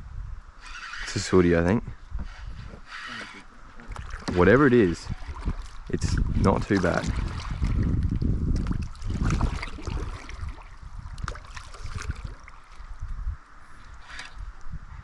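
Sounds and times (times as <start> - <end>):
wind rumble on microphone: 0.0 - 2.9, 3.8 - 15.0
water splashing and sloshing: 2.4 - 15.0.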